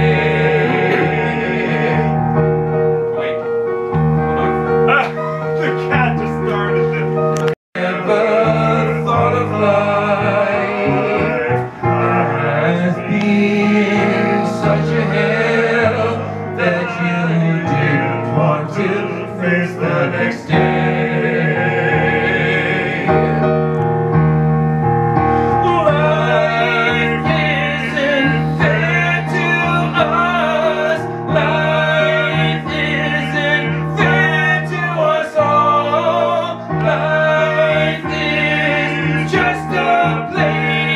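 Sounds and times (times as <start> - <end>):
people singing: 0.0 - 2.6, 7.8 - 23.8, 25.4 - 40.9
digital piano chords: 0.0 - 40.9.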